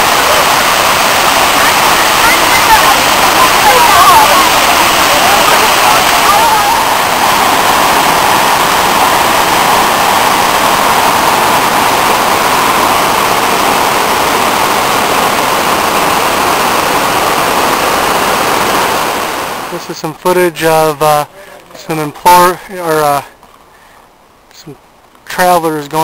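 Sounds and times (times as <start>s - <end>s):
white water rushing: 0.0s - 26.0s.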